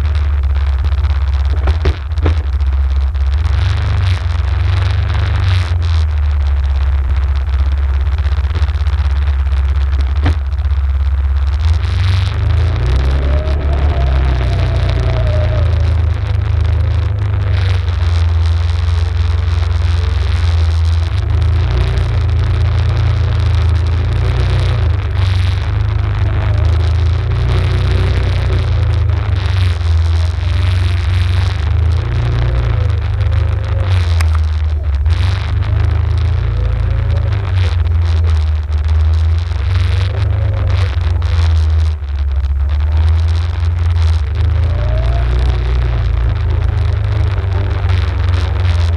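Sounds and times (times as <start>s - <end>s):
atv engine running: 0.0s - 42.6s.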